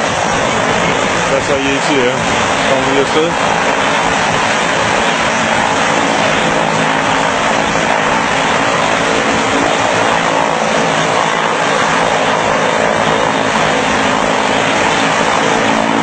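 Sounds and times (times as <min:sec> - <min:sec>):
turboprop plane engines running: 0:00.0 - 0:16.0.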